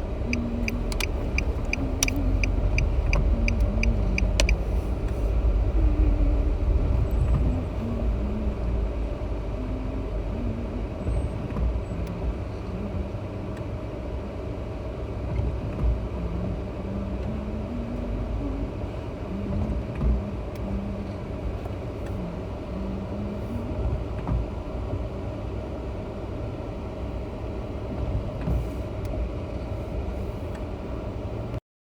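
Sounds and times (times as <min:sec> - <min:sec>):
car engine hum inside cabin: 0:00.0 - 0:31.6.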